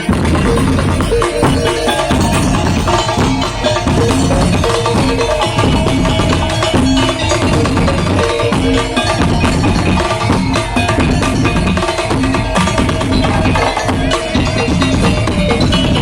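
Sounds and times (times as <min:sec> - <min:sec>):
wooden percussion ensemble playing: 0:00.0 - 0:16.0.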